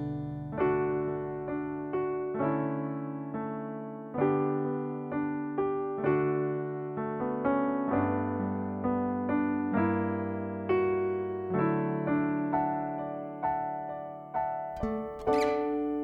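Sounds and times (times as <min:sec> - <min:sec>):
gentle electric piano melody: 0:00.0 - 0:16.0.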